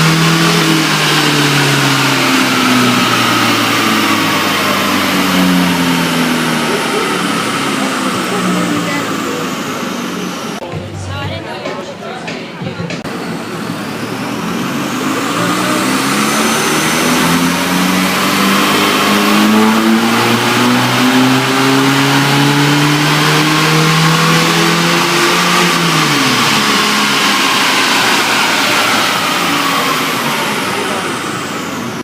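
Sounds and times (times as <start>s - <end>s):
car engine revving: 0.0s - 10.6s, 12.9s - 32.0s.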